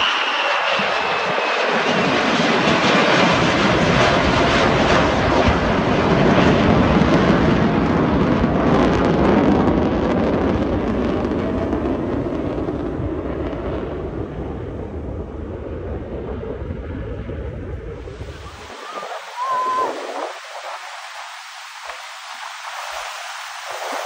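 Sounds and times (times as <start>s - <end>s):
fighter jet hovering rumble: 0.0s - 24.0s.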